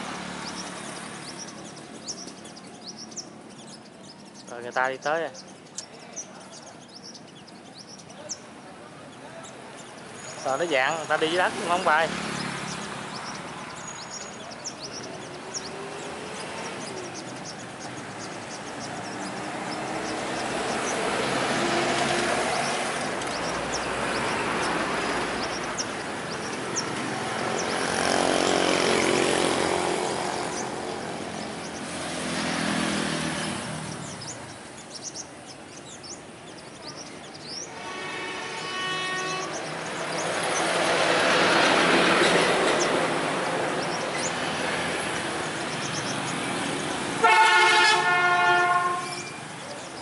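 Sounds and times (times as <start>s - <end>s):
sunbirds chirping: 0.0s - 50.0s
vehicles passing: 0.0s - 50.0s.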